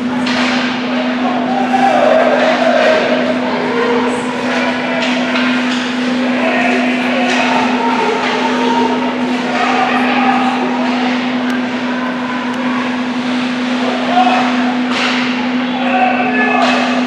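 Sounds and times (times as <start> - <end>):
scattered voices: 0.0 - 17.0.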